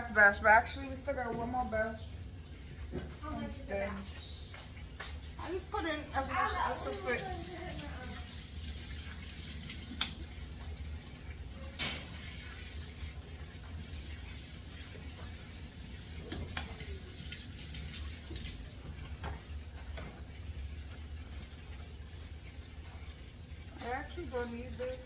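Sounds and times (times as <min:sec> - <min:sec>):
chicken wings frying in oil: 0:00.0 - 0:25.0.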